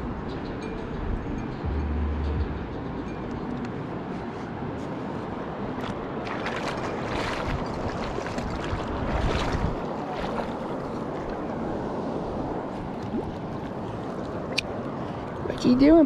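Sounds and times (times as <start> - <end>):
wind rumbling on microphone: 0.0 - 16.0
river water rushing: 2.9 - 16.0.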